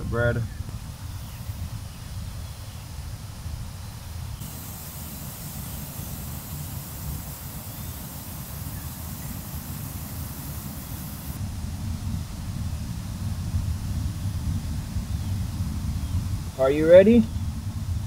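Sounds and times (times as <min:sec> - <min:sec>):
wind rumble on microphone: 0:00.0 - 0:18.0
charcoal fire hissing: 0:00.1 - 0:18.0.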